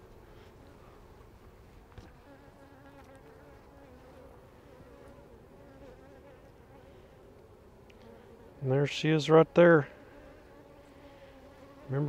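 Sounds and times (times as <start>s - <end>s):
bees buzzing: 0.4s - 12.0s.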